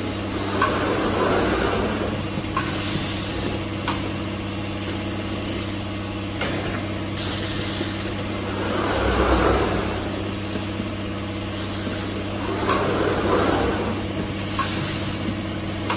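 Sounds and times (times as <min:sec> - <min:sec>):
gantry motor noise: 0:00.0 - 0:15.9
machine hum: 0:00.0 - 0:15.9.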